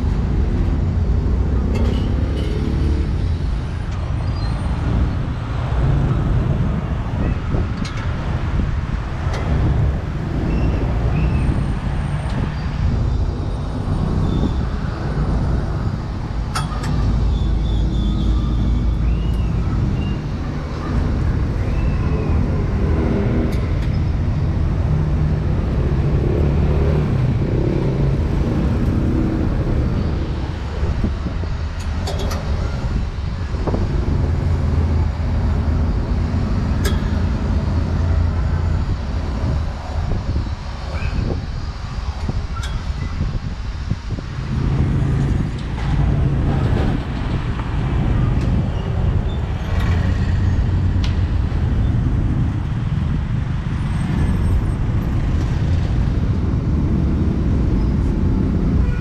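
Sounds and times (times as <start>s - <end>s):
close engine: 0.0s - 59.0s
road traffic rumble: 0.0s - 59.0s.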